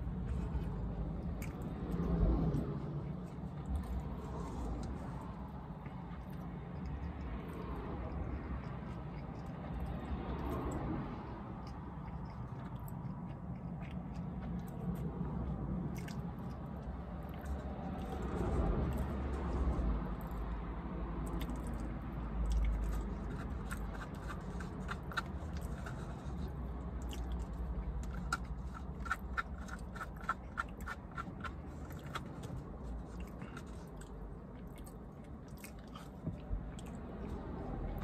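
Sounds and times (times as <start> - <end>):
person chewing food: 0.0 - 20.6, 21.2 - 38.0
small wet clicking sounds: 1.2 - 20.6, 21.2 - 38.0.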